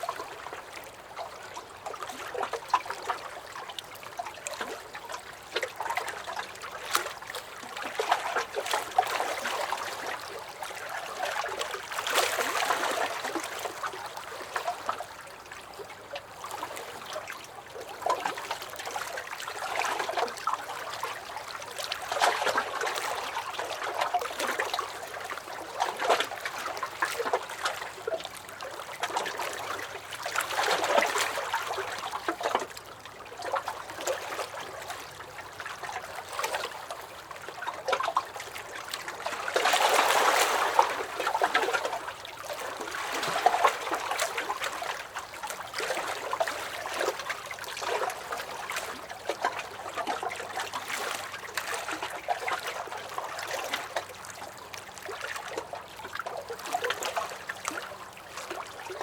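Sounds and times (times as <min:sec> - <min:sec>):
waves lapping against a dock: 0:00.0 - 0:59.0.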